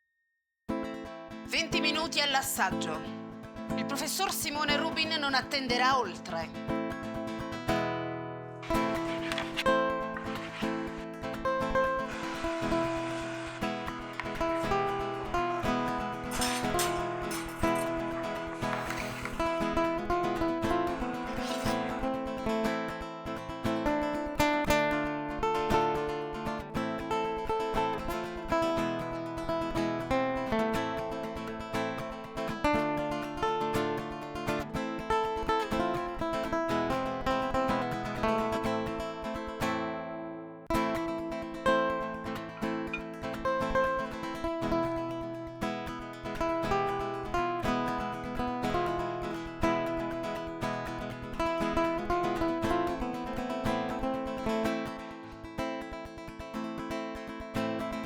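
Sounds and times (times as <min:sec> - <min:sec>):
acoustic guitar music: 0:00.7 - 0:58.0.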